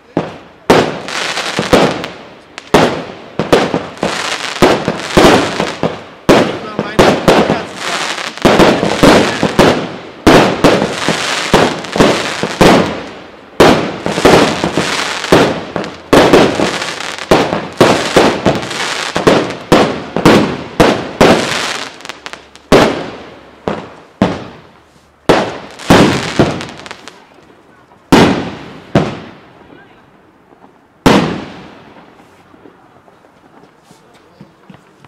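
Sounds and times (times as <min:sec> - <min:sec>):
fireworks crackle: 0:00.0 - 0:30.0
fireworks bangs: 0:00.0 - 0:35.0.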